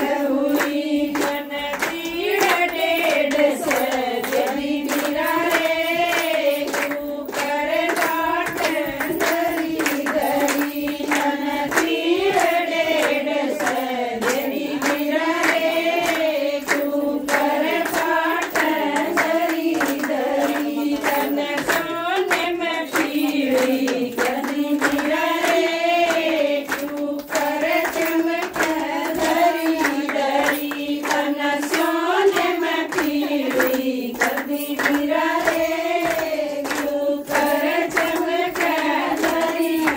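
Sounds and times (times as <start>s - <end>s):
hand clapping: 0.0s - 39.9s
women singing folk song: 0.0s - 39.9s.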